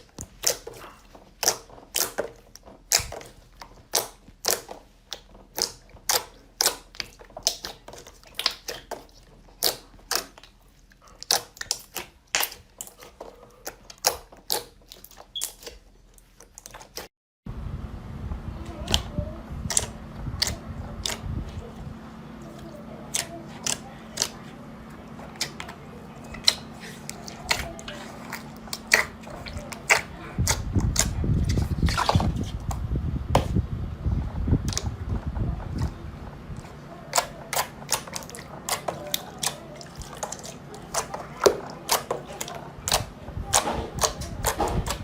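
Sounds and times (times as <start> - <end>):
slime squishing with wet pops: 0.0 - 17.1, 18.8 - 33.6, 34.5 - 45.0.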